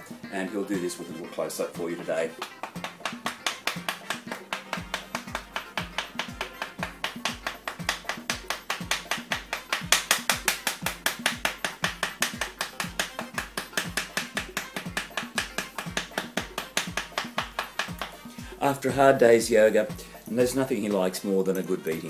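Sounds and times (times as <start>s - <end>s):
music with fast beat: 0.0s - 21.1s.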